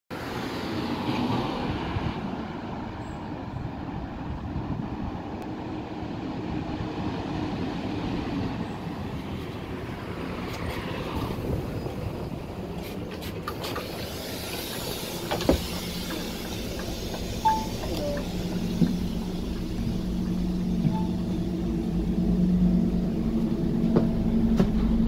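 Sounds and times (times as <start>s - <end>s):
diesel bus engine drone: 0.2s - 25.0s.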